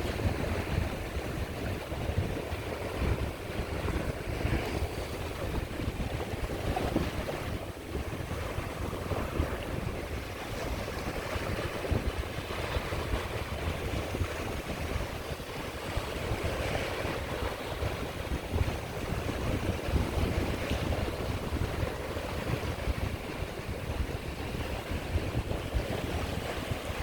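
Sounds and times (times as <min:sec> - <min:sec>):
sea waves washing on shore: 0:00.0 - 0:27.0
wind buffeting microphone: 0:00.0 - 0:27.0.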